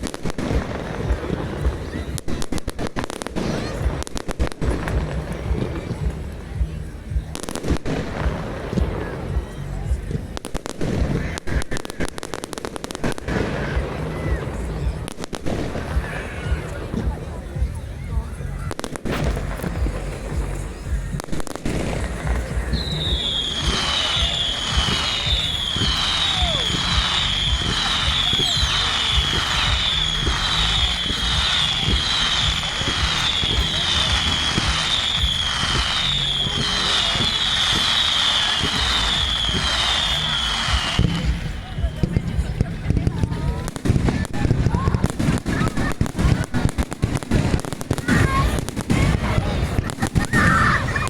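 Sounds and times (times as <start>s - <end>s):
fireworks crackling bangs: 0.0s - 51.0s.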